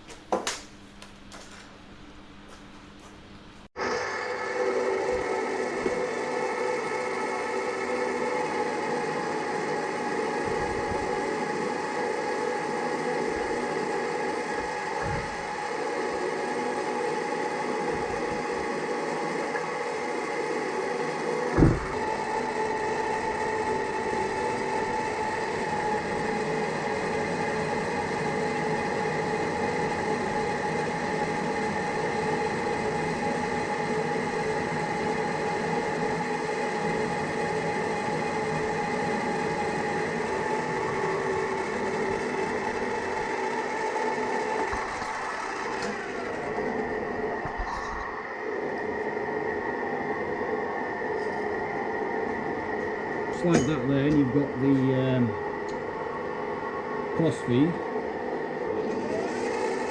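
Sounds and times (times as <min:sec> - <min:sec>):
lathe motor whine: 0:03.8 - 0:59.9.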